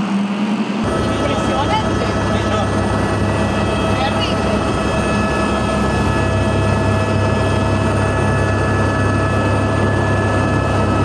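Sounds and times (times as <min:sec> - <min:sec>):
helicopter rotor and engine drone: 0:00.0 - 0:11.0
high turbine whine: 0:00.0 - 0:11.0.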